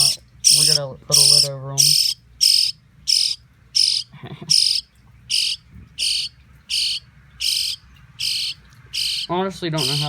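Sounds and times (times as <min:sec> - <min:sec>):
baby birds chirping: 0:00.0 - 0:10.0.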